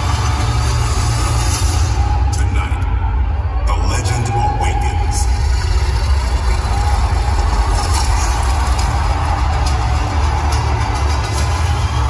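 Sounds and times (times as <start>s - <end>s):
loud bass-heavy music over sound system: 0.0s - 12.0s.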